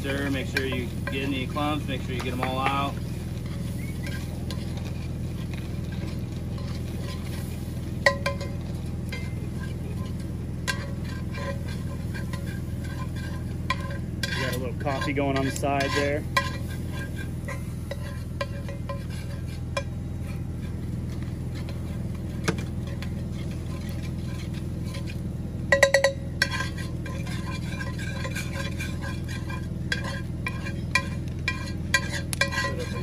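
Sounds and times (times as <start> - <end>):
low hum: 0.0 - 33.0
metal spoon scraping skillet: 0.0 - 33.0.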